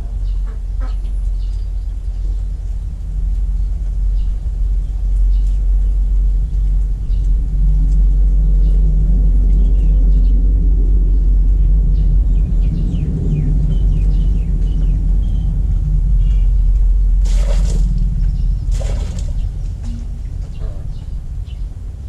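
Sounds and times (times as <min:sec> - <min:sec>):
loud low rumble: 0:00.0 - 0:22.0.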